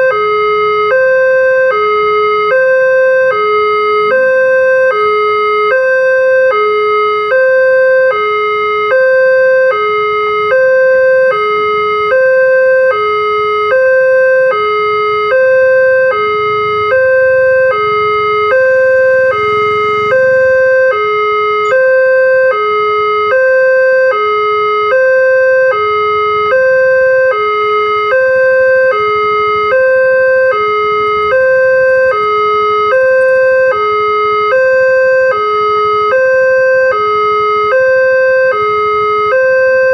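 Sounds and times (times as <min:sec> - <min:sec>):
two-tone level crossing alarm: 0:00.0 - 0:39.9.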